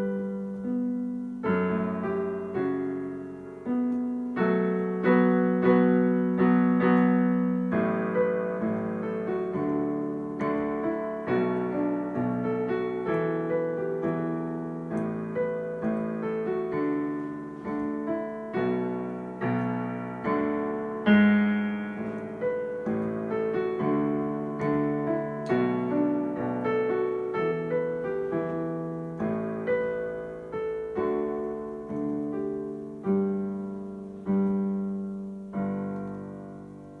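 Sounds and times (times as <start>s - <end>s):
slow piano melody: 0.0s - 37.0s.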